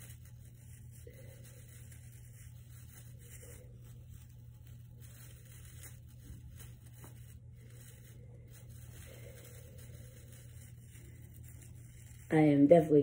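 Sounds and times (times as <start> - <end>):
rustling of artificial branches: 0.0 - 13.0
steady low hum: 0.0 - 13.0.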